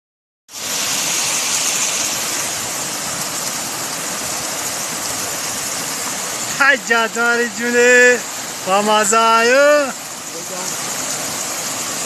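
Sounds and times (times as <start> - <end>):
stream rushing over rocks: 0.5 - 12.0.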